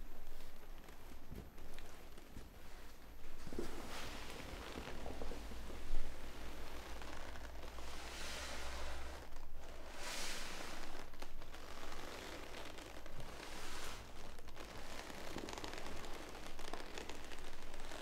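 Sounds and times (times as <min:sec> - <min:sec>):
soft rustling: 0:00.0 - 0:18.0.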